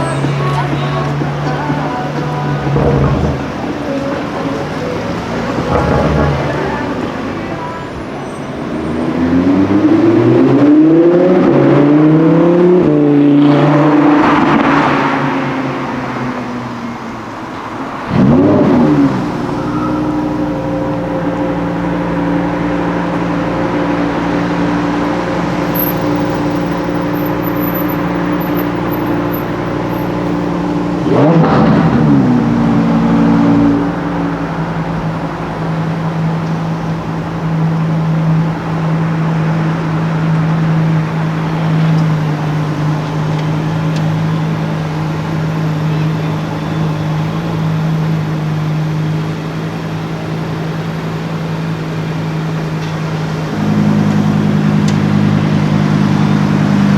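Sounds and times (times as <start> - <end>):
sports car engine idling and revving: 0.0 - 56.9.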